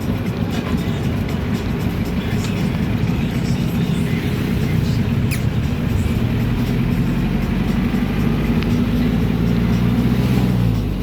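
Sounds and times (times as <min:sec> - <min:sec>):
heavy engine running: 0:00.0 - 0:11.0.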